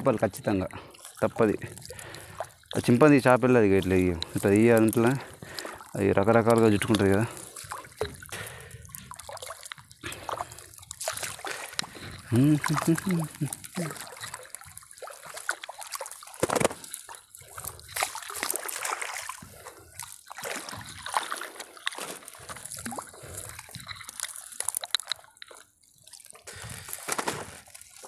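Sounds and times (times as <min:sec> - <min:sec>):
water splashing and dripping: 0:00.0 - 0:28.0
fish splashing: 0:00.8 - 0:28.0.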